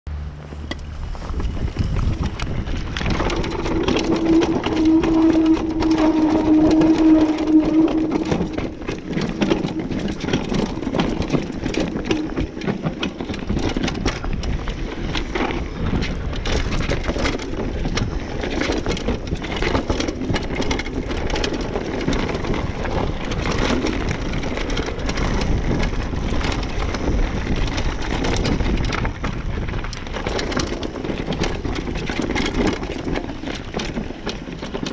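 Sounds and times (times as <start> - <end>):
bike clicking and rattling: 0.1 - 34.9
bike tyres rumbling on gravel: 0.1 - 34.9.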